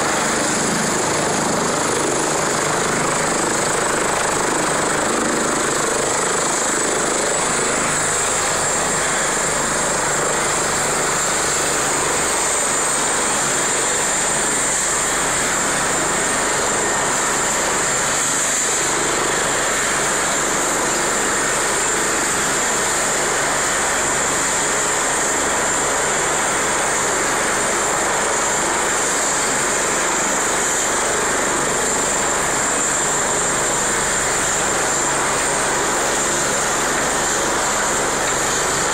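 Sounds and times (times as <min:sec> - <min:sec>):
helicopter rotor rushing: 0:00.0 - 0:38.9
high turbine whine: 0:00.0 - 0:38.9.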